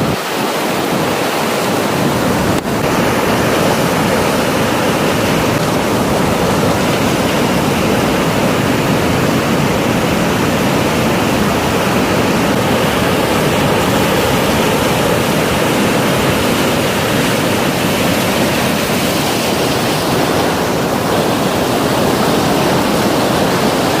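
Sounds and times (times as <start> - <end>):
big waves breaking on shore: 0.0 - 24.0.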